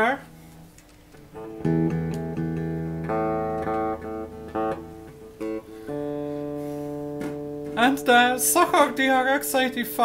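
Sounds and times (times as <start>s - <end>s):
clean electric guitar chords: 0.0s - 10.0s.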